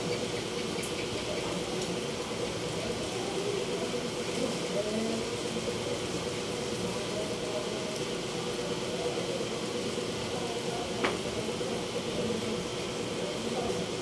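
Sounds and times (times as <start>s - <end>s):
faint voices: 0.8s - 14.0s.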